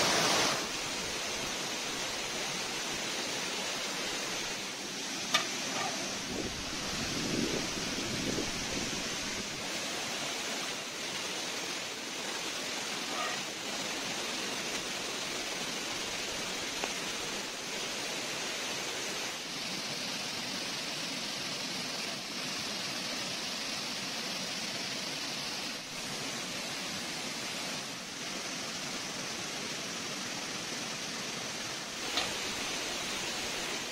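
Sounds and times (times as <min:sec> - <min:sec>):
stream and waterfall rushing: 0:00.0 - 0:33.9.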